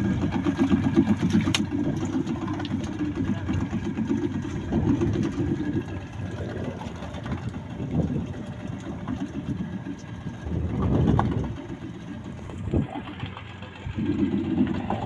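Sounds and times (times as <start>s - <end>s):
small outboard motor running: 0.0s - 15.0s.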